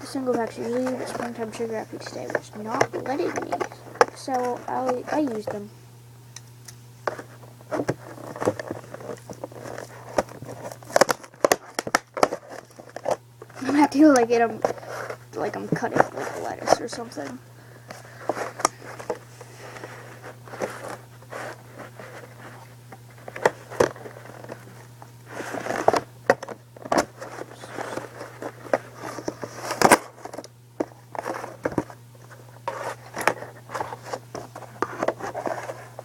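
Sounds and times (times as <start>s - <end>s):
plastic crackling: 0.0s - 5.7s, 6.6s - 36.0s.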